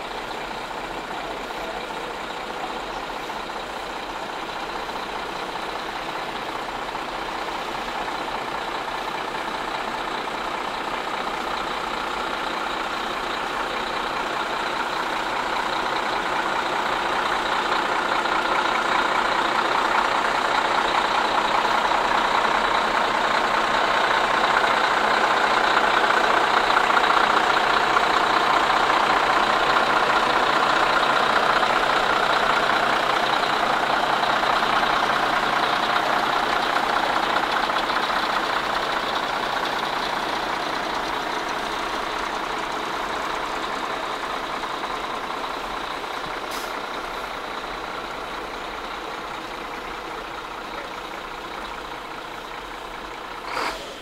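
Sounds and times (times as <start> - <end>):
large engine running: 0.0 - 54.0.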